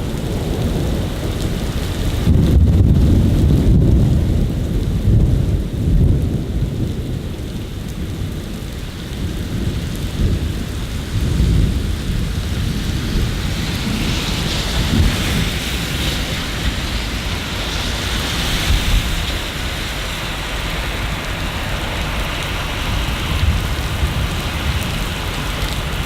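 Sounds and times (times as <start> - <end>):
rolling thunder: 0.0 - 26.0
steady rain: 0.0 - 26.0.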